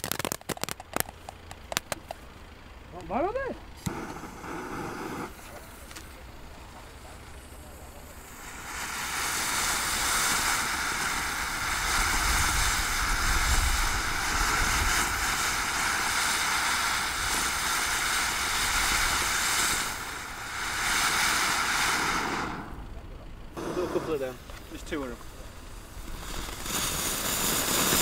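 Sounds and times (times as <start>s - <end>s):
firework fountain hissing: 0.0s - 28.0s.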